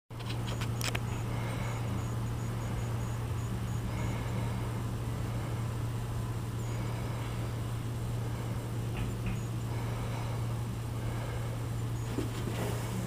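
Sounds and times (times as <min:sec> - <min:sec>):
low hum: 0:00.1 - 0:13.0.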